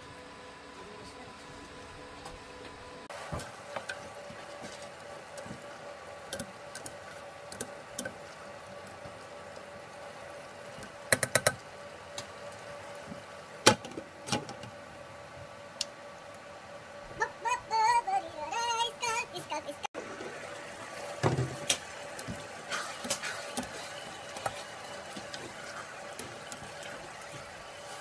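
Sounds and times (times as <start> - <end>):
faint hum: 0.0 - 28.0.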